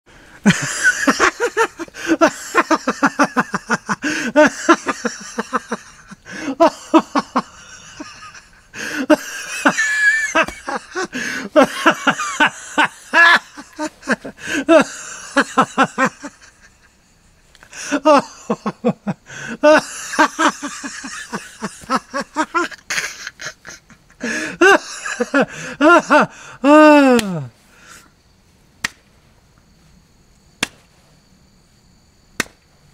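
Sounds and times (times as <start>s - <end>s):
person laughing loudly: 0.4s - 17.1s, 17.7s - 27.5s.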